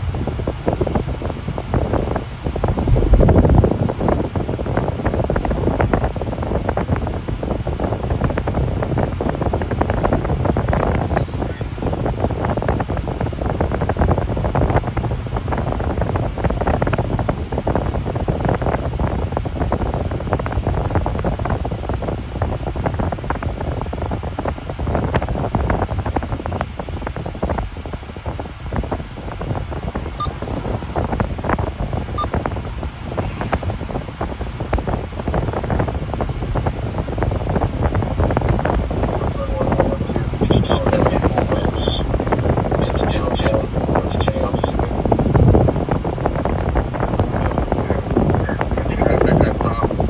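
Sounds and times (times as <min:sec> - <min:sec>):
road noise inside car: 0:00.0 - 0:50.0
wind buffeting: 0:00.0 - 0:50.0.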